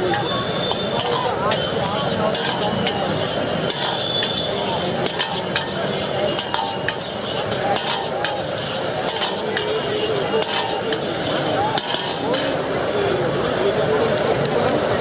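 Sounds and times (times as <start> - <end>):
metal utensil scraping a pan: 0.0 - 12.6
food sizzling in a pan: 0.0 - 13.8.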